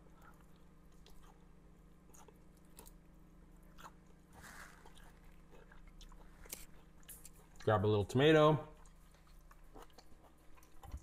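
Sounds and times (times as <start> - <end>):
crunching and chewing fried fish: 0.0 - 11.0.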